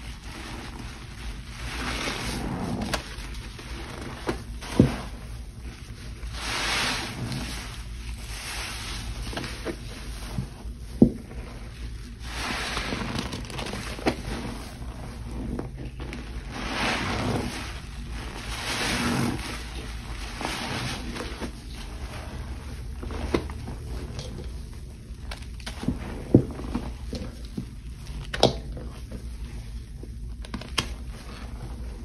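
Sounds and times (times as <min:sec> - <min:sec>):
soapy water sloshing: 0:00.0 - 0:30.0.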